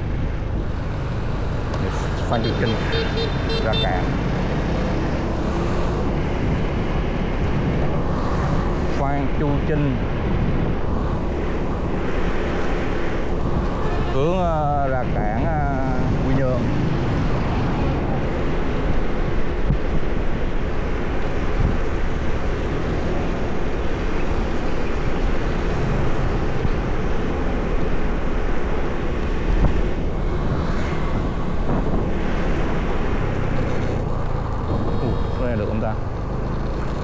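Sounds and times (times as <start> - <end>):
road and engine rumble: 0.0 - 37.0
wind buffeting microphone: 4.2 - 37.0.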